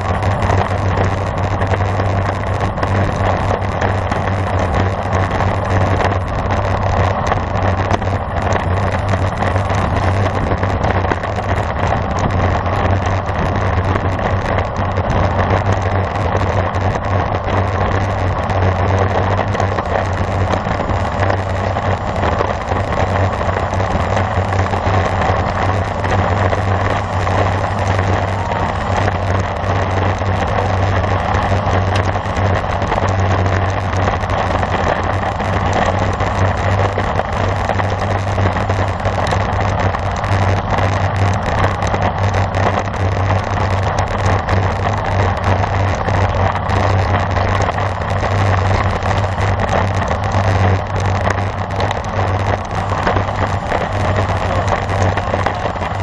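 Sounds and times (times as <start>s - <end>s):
bicycle tyre and wind noise: 0.0s - 56.0s
low hum: 0.0s - 56.0s.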